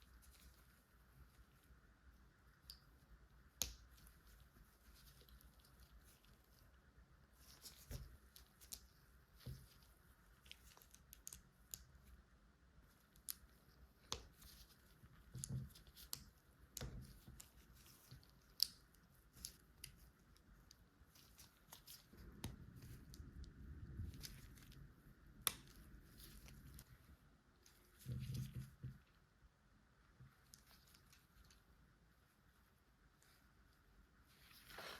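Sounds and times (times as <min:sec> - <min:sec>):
soft rustle of handling: 0:00.0 - 0:34.9.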